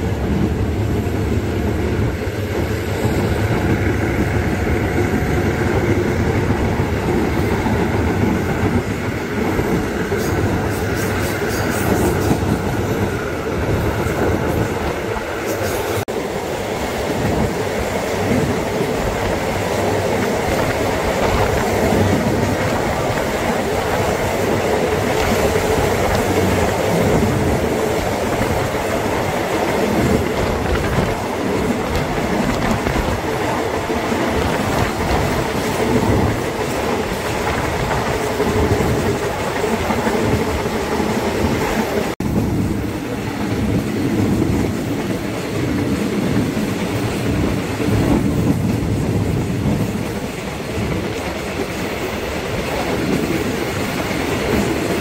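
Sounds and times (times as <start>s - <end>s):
train wheels clattering on track: 0.0s - 55.0s.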